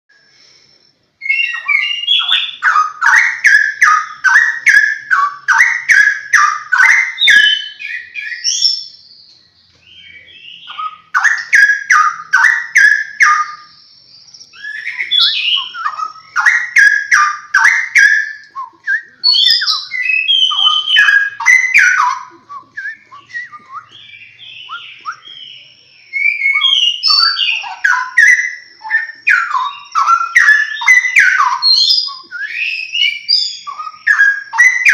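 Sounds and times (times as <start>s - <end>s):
bird singing whistled phrases: 0.6s - 34.9s.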